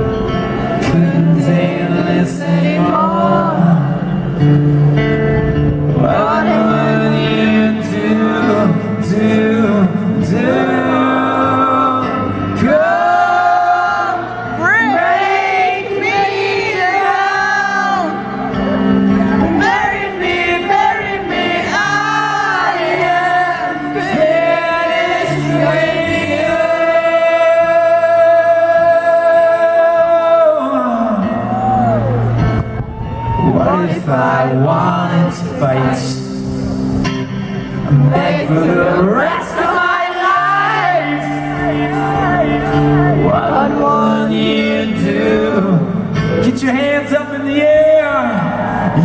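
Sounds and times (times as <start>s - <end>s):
person singing: 0.0s - 32.6s, 33.3s - 49.0s
acoustic guitar: 0.0s - 49.0s.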